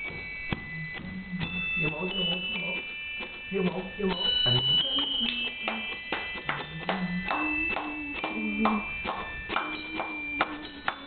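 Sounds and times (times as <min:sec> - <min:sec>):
lower stepping melody: 0:00.0 - 0:11.0
toy bells playing a tune: 0:00.0 - 0:11.0.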